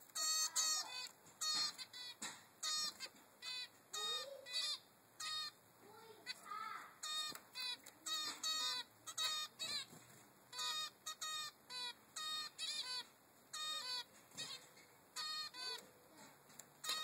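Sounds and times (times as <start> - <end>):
finch fledgling begging calls: 0.1 - 5.6, 6.2 - 17.0.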